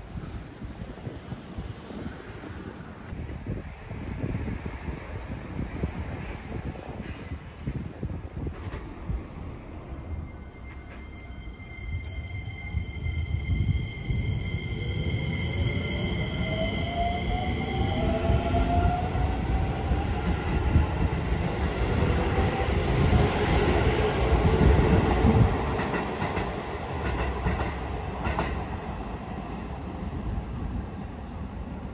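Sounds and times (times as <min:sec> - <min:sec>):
wheels rumbling on rail: 0:00.0 - 0:31.9.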